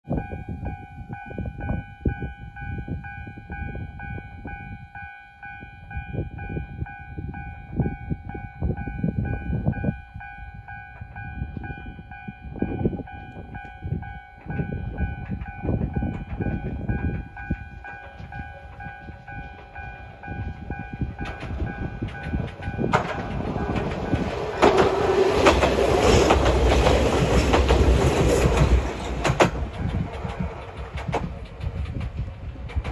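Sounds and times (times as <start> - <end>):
wind gusts on microphone: 0.0 - 32.9
train wheels rumbling on rail: 0.1 - 32.9.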